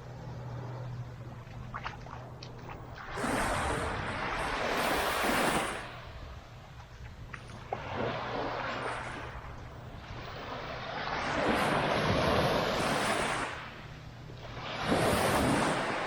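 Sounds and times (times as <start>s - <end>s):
small waves breaking on shore: 0.8s - 16.0s.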